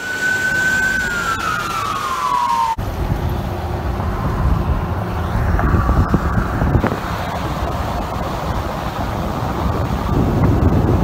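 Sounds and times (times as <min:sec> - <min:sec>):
fire truck siren wailing: 0:00.0 - 0:10.4
low wind rumble: 0:00.0 - 0:11.0.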